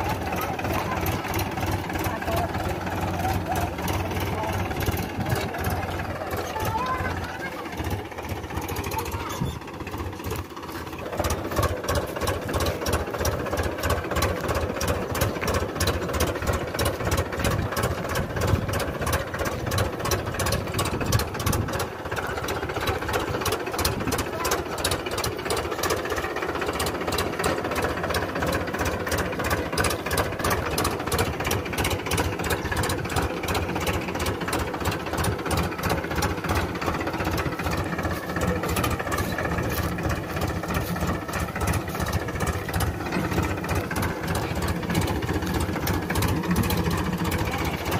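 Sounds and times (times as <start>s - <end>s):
tractor diesel engine clattering: 0.0s - 47.9s.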